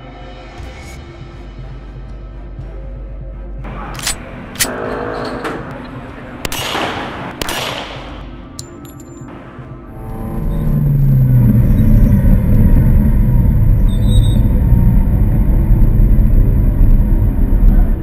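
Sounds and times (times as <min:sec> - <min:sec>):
car engine low rumble: 0:01.7 - 0:18.0.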